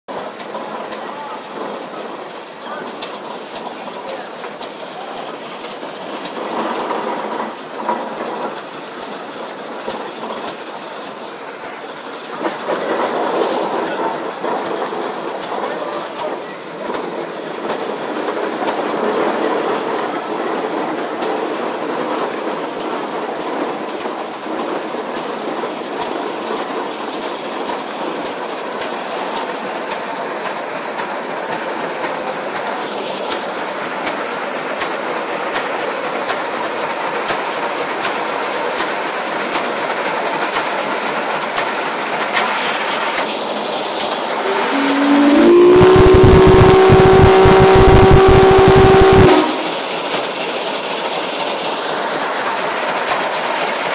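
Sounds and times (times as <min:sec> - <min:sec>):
steam traction engines chuffing: 0:00.1 - 0:53.9.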